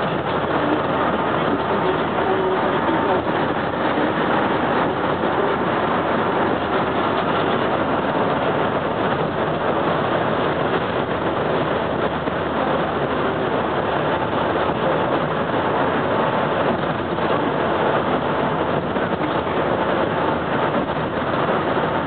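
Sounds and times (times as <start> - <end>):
bus engine cruising: 0.0 - 22.0.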